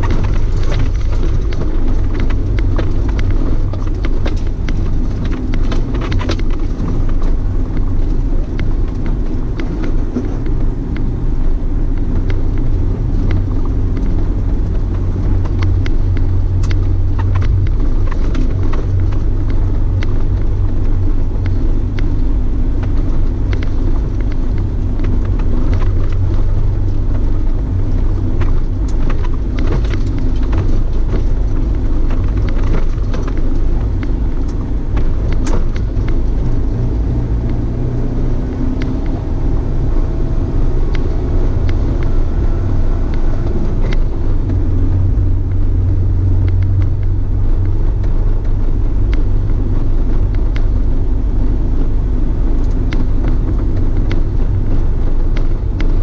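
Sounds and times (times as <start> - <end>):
car driving on rough track: 0.0 - 56.0.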